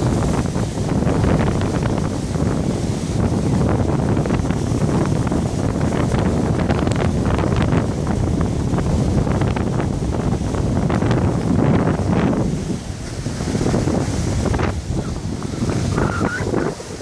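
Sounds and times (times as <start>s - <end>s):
waves splashing against rocks: 0.0s - 17.0s
wind buffeting microphone: 0.0s - 17.0s.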